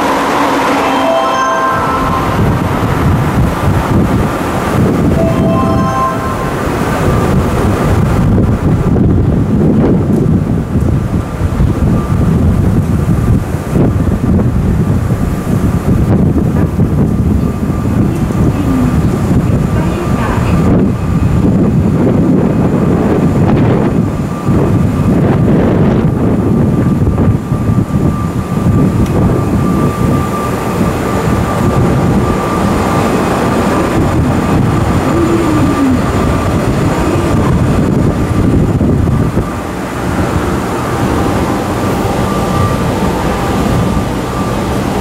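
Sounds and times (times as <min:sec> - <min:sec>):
train equipment low rumble: 0:00.0 - 0:45.0.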